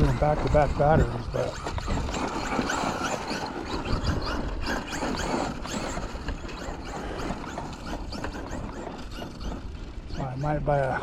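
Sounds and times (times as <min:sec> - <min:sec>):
electric motor whining: 0:00.0 - 0:11.0
steady rough noise: 0:00.0 - 0:11.0.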